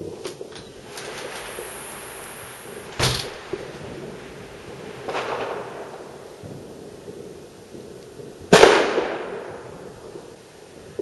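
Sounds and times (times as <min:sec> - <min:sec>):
firework bang: 0:00.0 - 0:09.7.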